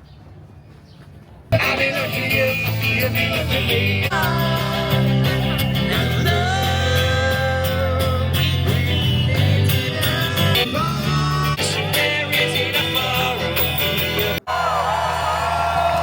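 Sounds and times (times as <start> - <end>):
song with guitar and beat: 1.6 - 14.4
person singing: 1.6 - 14.5.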